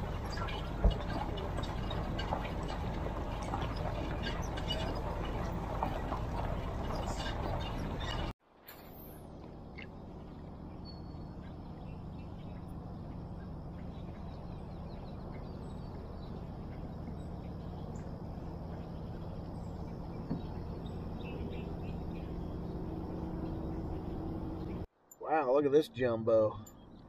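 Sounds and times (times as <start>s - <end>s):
low hum: 0.0s - 25.3s.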